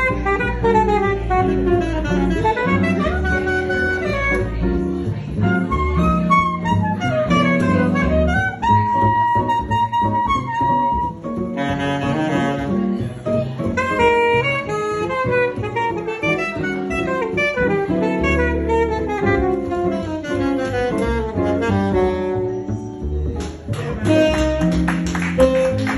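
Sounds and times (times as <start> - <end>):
alto saxophone solo: 0.0 - 22.9, 24.0 - 25.9
double bass: 0.0 - 25.9.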